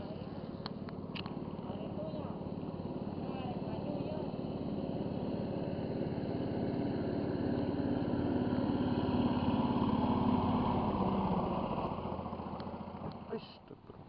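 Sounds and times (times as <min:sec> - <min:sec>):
small boat engine running: 0:00.0 - 0:14.0.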